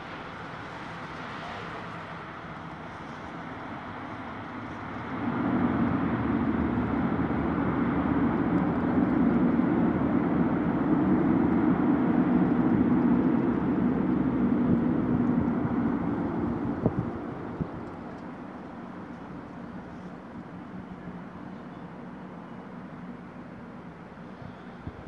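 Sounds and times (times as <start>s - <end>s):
distant turboprop engines: 0.0s - 25.0s.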